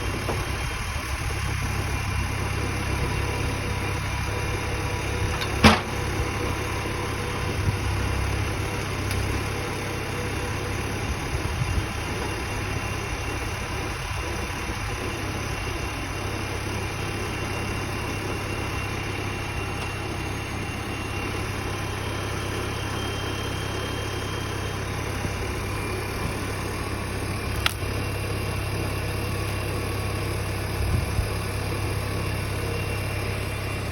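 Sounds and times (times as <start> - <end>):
machine engine droning: 0.0 - 33.9.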